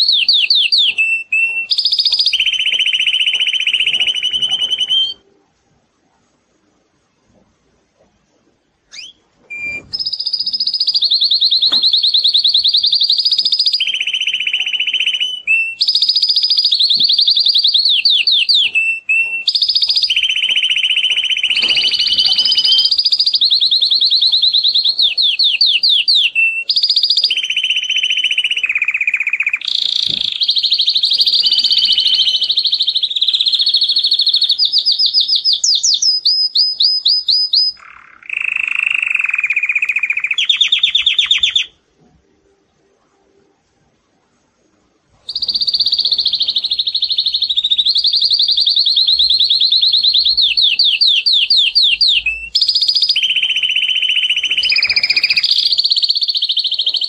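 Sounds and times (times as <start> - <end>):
canary singing trills: 0.0 - 5.2, 8.8 - 41.8, 45.2 - 57.0.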